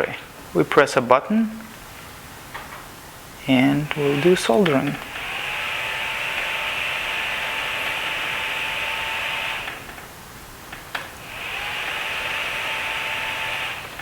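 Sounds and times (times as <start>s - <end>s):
fan whirring with a whine: 0.0s - 14.0s.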